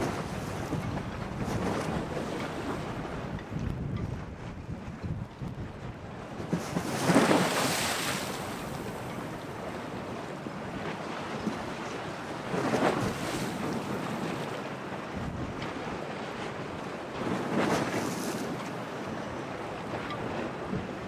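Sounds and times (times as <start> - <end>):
waves splashing at harbour: 0.0 - 21.0
wind buffeting microphone: 0.0 - 21.0.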